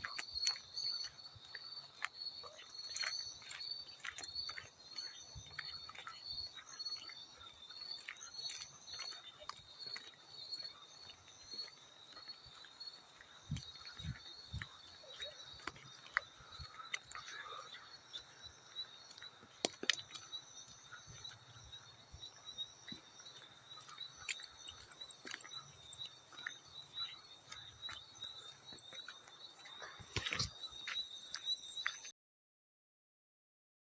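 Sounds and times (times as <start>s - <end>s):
crickets chirping: 0.0s - 32.1s.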